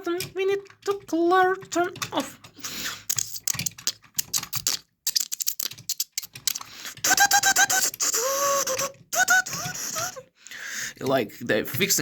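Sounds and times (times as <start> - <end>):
plastic toy parts clicking: 0.0 - 10.2.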